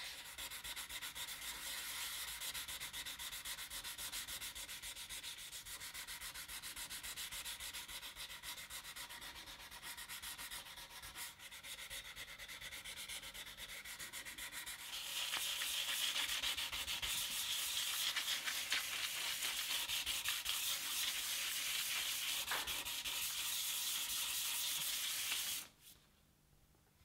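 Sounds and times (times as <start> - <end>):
hand sanding wood: 0.0 - 25.8.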